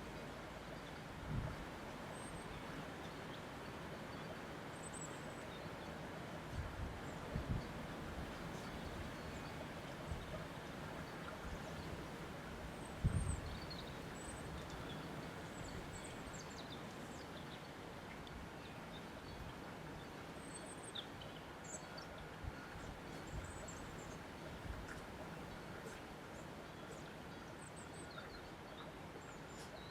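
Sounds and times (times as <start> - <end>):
wind: 0.0 - 29.9.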